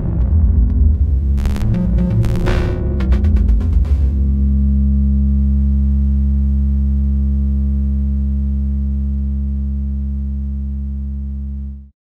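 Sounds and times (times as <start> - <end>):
synthesizer low drone: 0.0 - 11.9.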